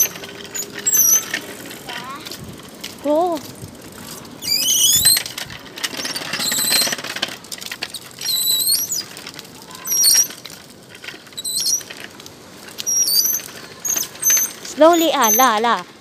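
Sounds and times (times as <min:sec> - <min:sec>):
bicycle rattling over brick paving: 0:00.0 - 0:16.0.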